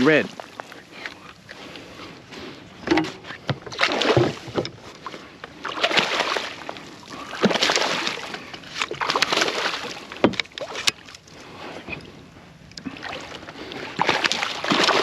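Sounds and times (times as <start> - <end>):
water splashing against kayak: 0.0 - 15.0.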